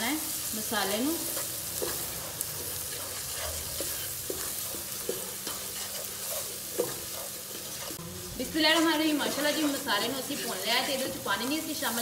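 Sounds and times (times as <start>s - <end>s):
sauce sizzling in a pan: 0.0s - 12.0s
wooden spatula scraping a pan: 0.6s - 12.0s.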